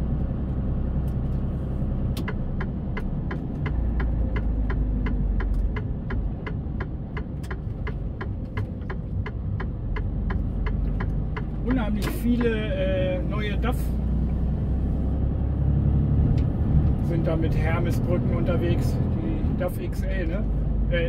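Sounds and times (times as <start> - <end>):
diesel truck engine running: 0.0 - 21.0
turn signal ticking: 2.0 - 15.2, 16.2 - 21.0.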